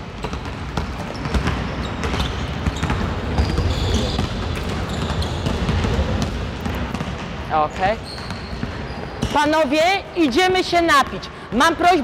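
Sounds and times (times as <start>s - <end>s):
basketballs bouncing on gym floor: 0.0s - 12.0s.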